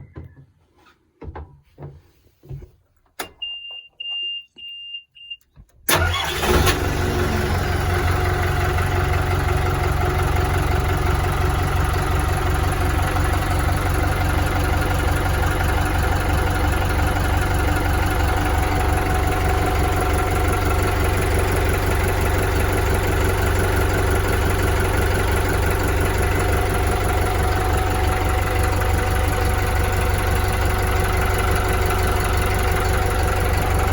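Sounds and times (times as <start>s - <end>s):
boat engine starting and idling: 5.9s - 33.9s.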